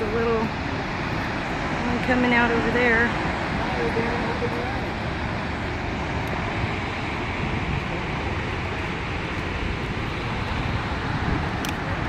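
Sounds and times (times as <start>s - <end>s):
waterfall roaring: 0.0s - 12.0s
wind buffeting microphone: 0.0s - 12.0s.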